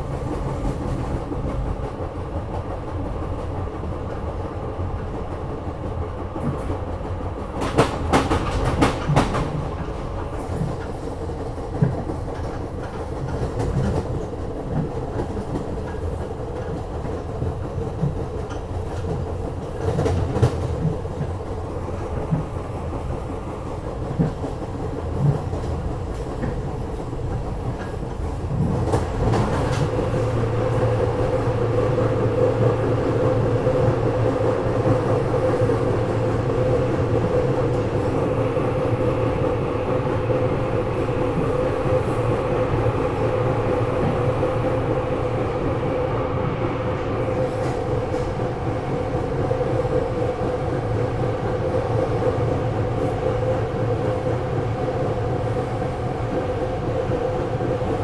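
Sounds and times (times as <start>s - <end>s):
train car rumble: 0.0s - 58.0s.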